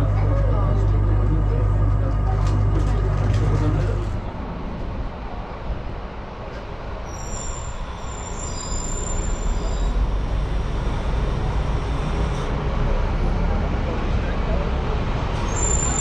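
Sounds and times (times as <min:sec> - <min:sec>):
bus engine rumble: 0:00.0 - 0:16.0
street traffic: 0:00.0 - 0:16.0.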